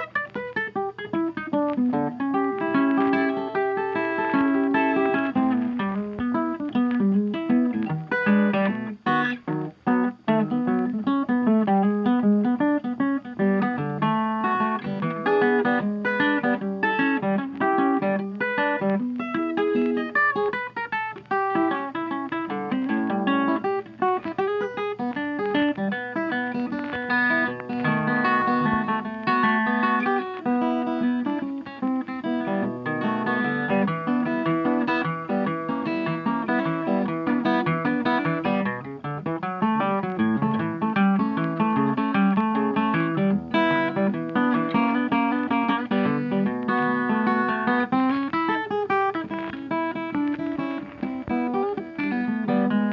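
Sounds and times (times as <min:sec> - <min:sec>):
acoustic guitar music: 0:00.0 - 0:52.9.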